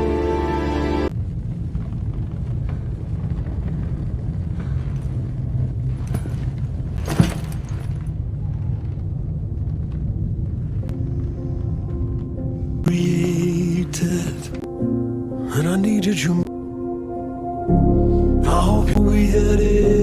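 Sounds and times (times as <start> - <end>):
low rumble: 1.0 - 15.1, 17.6 - 20.0.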